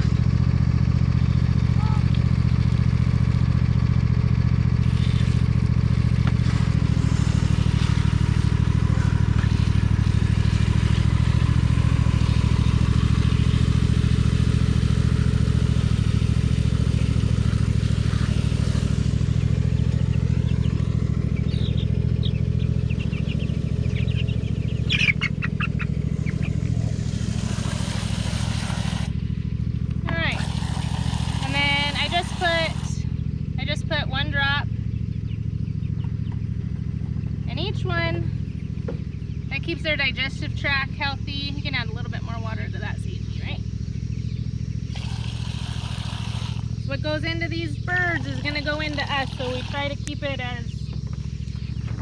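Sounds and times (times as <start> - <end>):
lawnmower engine droning: 0.0 - 52.0.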